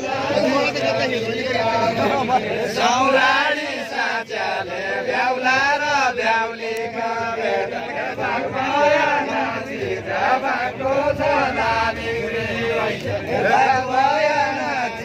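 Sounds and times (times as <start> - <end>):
group singing folk song: 0.0 - 15.0.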